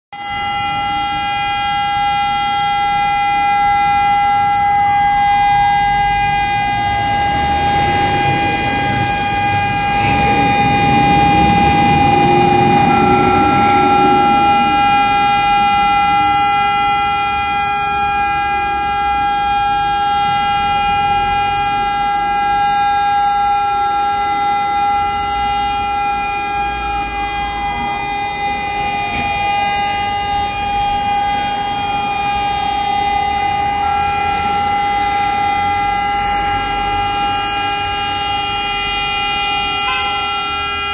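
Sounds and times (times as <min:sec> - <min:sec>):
air-raid sirens wailing: 0:00.2 - 0:40.9
street traffic: 0:00.2 - 0:40.9.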